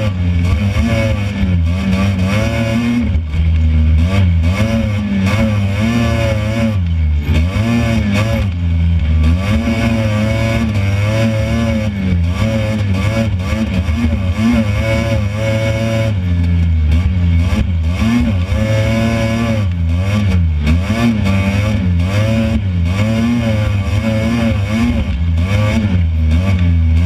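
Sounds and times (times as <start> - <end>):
buggy engine revving: 0.0 - 27.0.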